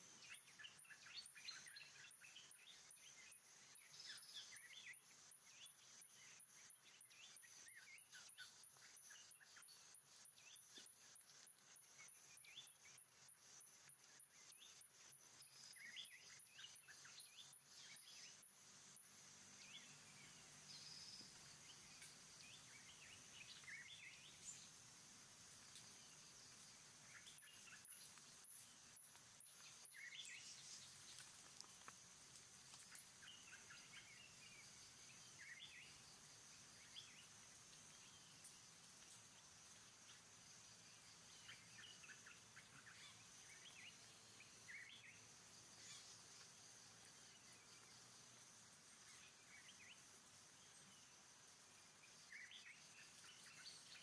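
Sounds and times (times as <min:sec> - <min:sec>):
high insect drone: 0:00.0 - 0:54.0
pulsing insect trill: 0:00.2 - 0:54.0.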